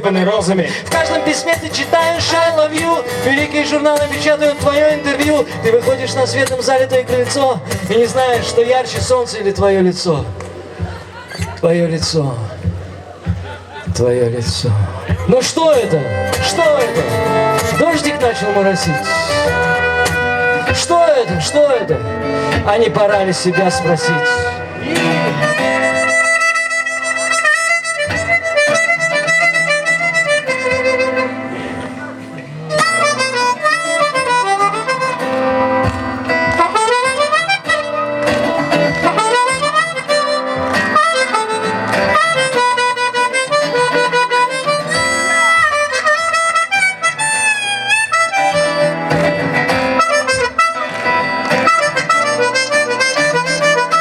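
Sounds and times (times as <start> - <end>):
lead melody with bending notes: 0.0 - 54.0
strummed rhythm: 0.0 - 54.0.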